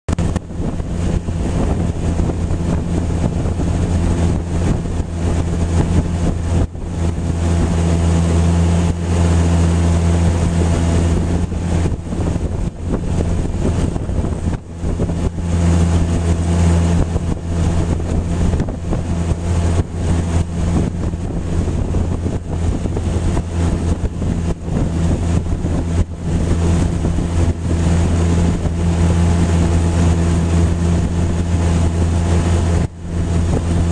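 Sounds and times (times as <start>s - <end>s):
outboard motor running: 0.1s - 33.9s
wind noise on microphone: 0.1s - 33.9s.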